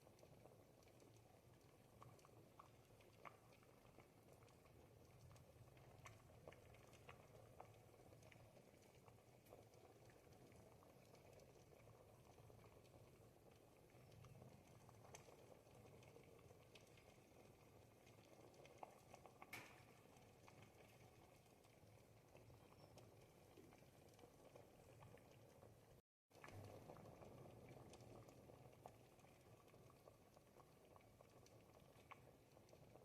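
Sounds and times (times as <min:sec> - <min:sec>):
soup bubbling with small pops: 0:00.0 - 0:33.0.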